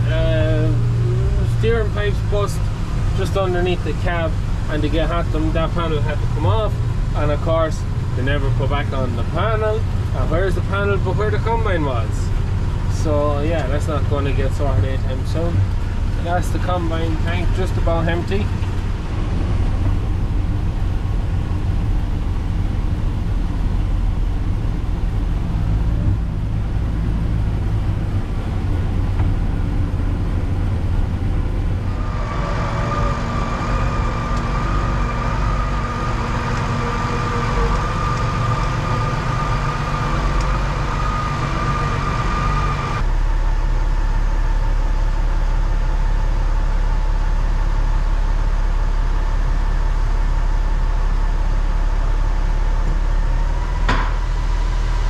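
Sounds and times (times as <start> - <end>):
steady high whine: 0.0 - 55.0
tractor engine from inside cab: 0.0 - 55.0.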